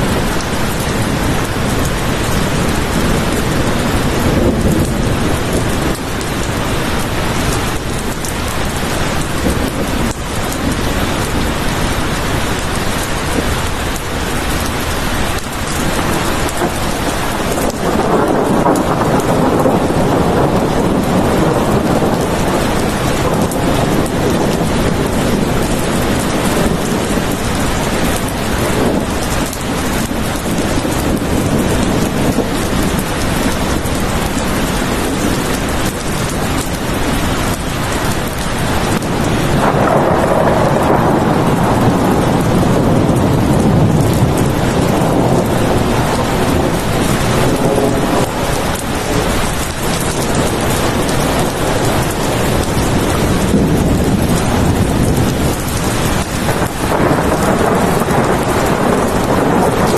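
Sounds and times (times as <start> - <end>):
steady rain: 0.0 - 59.9
thunder rolling: 0.0 - 59.9.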